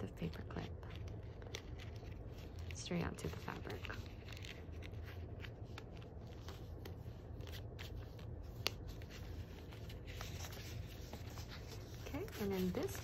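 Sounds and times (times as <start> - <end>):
paper rustling and tapping: 0.1 - 13.0.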